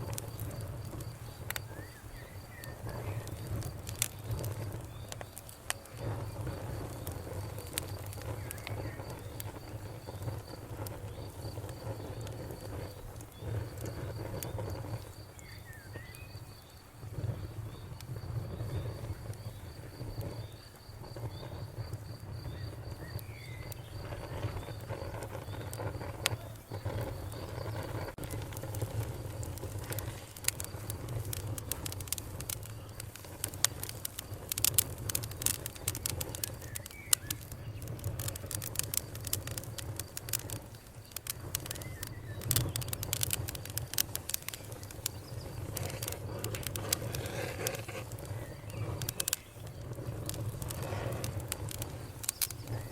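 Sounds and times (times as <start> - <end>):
fire low rumble: 0.0 - 52.9
wood fire crackling and popping: 0.0 - 52.9.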